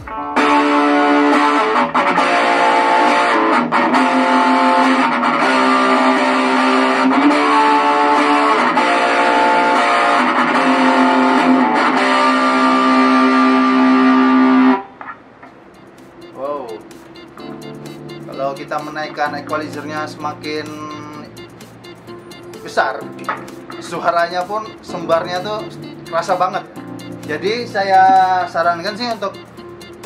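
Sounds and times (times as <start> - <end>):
distorted electric guitar chords: 0.0 - 30.0.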